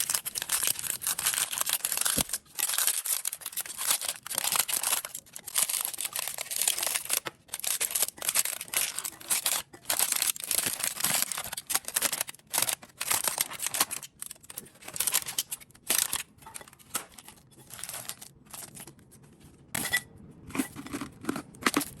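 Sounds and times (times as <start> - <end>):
packaging crinkling and tearing: 0.0 - 19.2.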